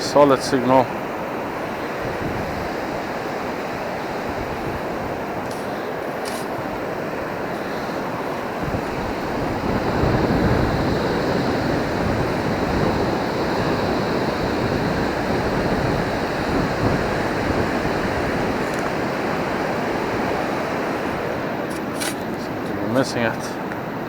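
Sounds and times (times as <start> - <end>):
waves breaking on shore: 0.0 - 24.0.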